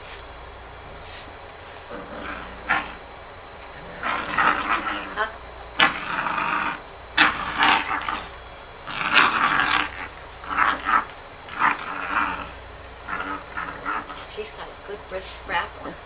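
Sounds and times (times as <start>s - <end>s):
dog growling: 0.8s - 3.1s, 3.7s - 16.0s.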